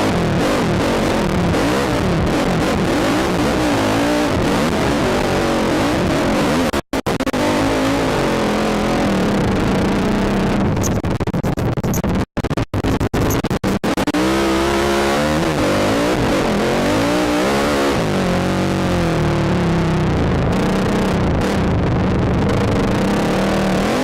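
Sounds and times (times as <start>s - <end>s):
quad bike engine revving: 0.0s - 10.9s, 13.2s - 24.0s.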